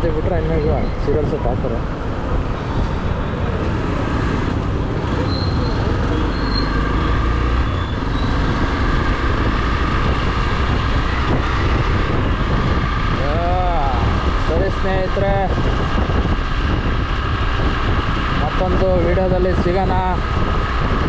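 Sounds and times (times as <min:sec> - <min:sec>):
vehicle engine and road rumble: 0:00.0 - 0:21.0
wind noise on microphone: 0:00.0 - 0:21.0.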